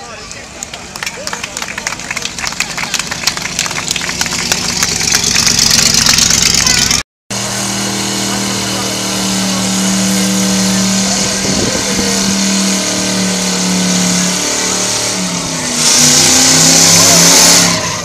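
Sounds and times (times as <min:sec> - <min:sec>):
car engine revving: 0:01.5 - 0:18.0.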